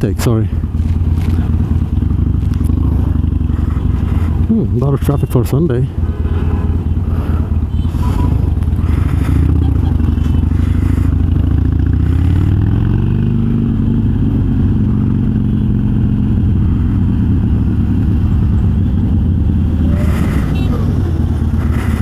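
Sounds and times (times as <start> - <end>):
motorcycle exhaust accelerating: 0.0 - 22.0.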